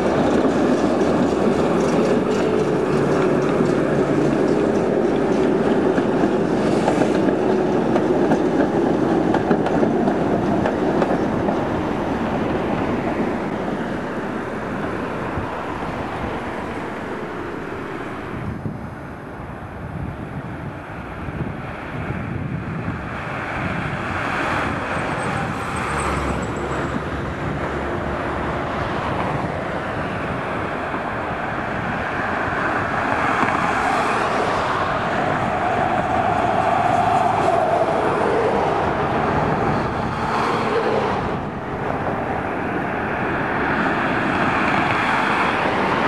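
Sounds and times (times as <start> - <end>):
cars passing: 0.0 - 20.2, 20.8 - 46.0
tram rolling along tracks: 0.0 - 46.0
tram whine: 0.0 - 46.0.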